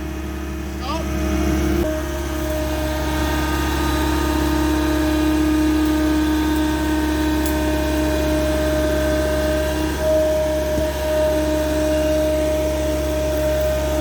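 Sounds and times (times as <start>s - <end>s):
auger engine running: 0.0s - 14.0s.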